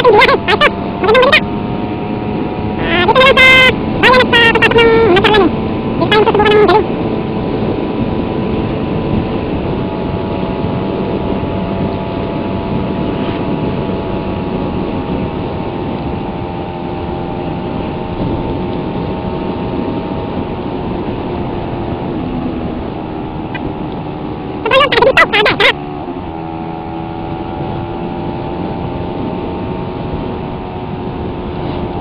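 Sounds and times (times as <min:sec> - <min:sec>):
motorcycle engine cruising: 0:00.0 - 0:32.0
wind and road noise: 0:00.0 - 0:32.0.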